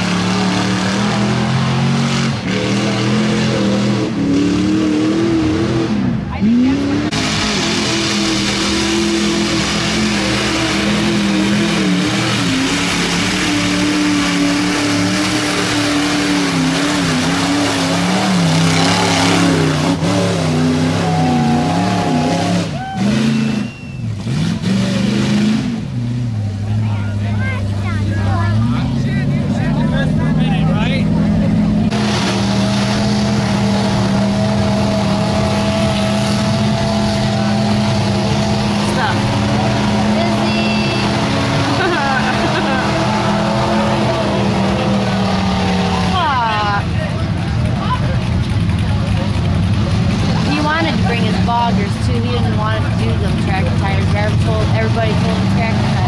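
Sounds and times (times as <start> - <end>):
truck engine revving high: 0.0 - 56.0.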